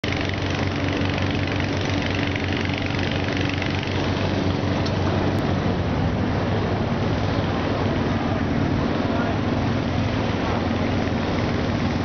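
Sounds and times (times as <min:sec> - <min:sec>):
engine-like drone with hiss: 0:00.0 - 0:12.0.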